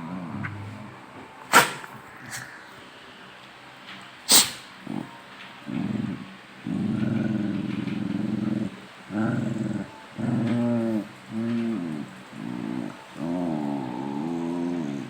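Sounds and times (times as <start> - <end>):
dogs play-growling: 0.0 - 2.7, 4.3 - 15.0.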